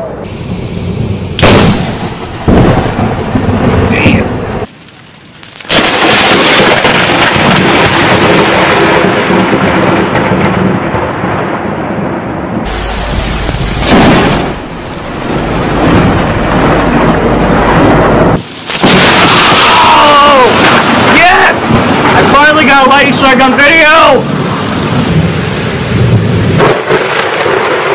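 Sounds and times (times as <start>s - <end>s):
rain: 0.0s - 27.9s
thunder rumbling: 0.0s - 27.9s.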